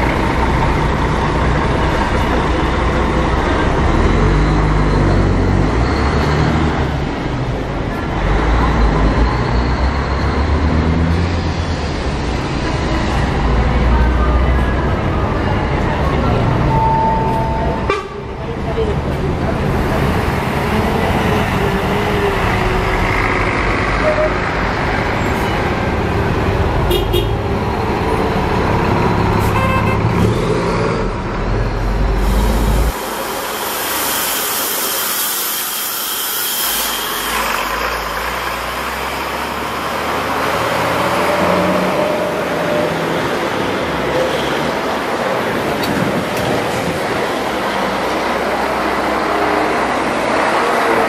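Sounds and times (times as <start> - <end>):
diesel coach engine rumbling: 0.0 - 51.0
street traffic: 0.0 - 51.0.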